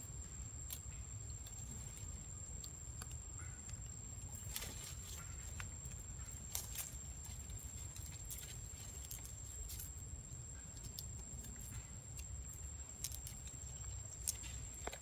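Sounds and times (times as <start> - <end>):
soft ticks and rustles: 0.6 - 15.0.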